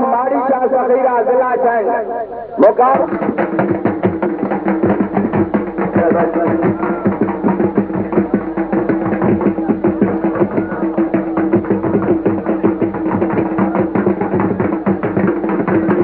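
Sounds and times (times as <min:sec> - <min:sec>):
rapid drum beat: 0:02.6 - 0:16.0.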